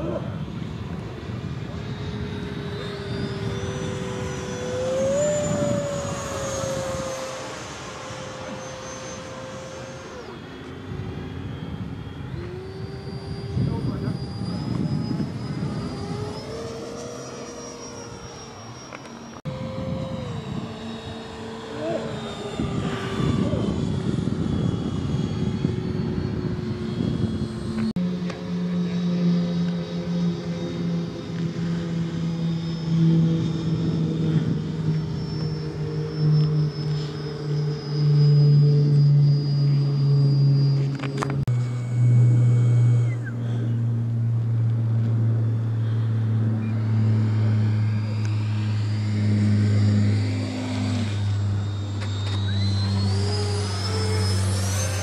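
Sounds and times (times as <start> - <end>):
low steady hum: 0.0 - 55.0
model jet fan whine: 0.0 - 55.0
second jet whine rising in pitch: 0.0 - 55.0.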